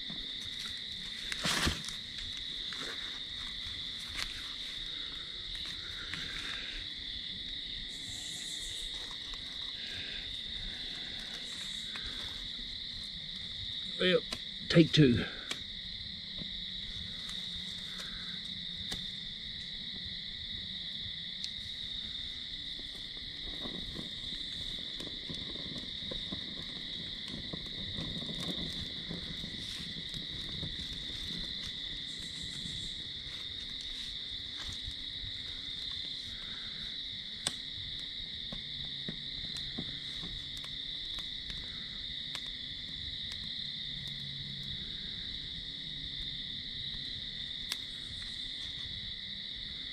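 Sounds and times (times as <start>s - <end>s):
campfire twigs crackling: 0.0s - 49.9s
crickets chirping: 0.0s - 49.9s.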